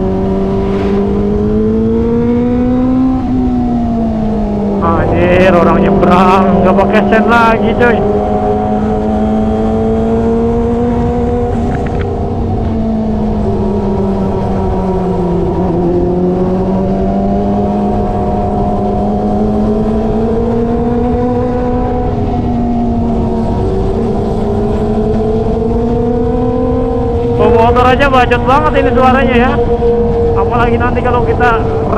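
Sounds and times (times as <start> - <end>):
loud motorcycle engine cruising: 0.0 - 31.9.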